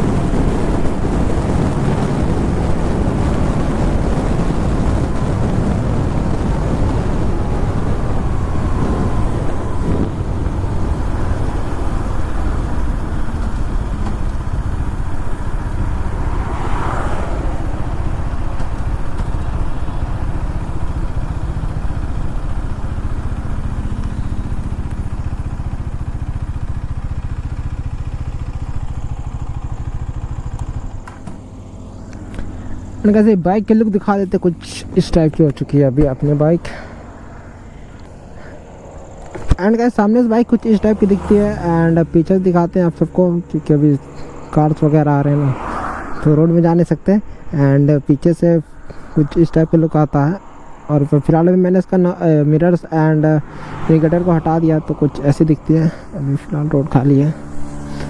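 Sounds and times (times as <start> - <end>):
wind rushing over microphone: 0.0 - 31.0, 31.6 - 58.0
motorcycle engine running: 0.0 - 58.0.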